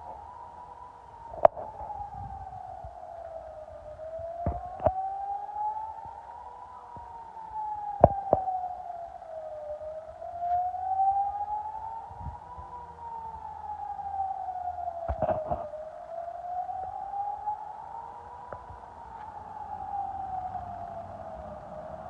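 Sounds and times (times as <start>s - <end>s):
warning siren wailing: 0.0s - 22.0s.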